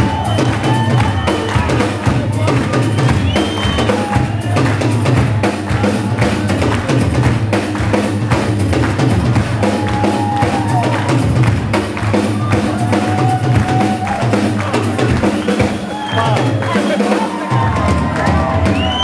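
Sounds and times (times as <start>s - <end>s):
live punk rock band playing: 0.0s - 19.0s.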